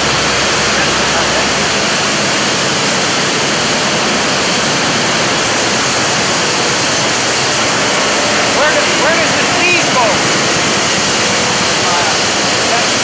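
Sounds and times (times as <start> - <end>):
cotton gin machinery din: 0.0 - 13.0.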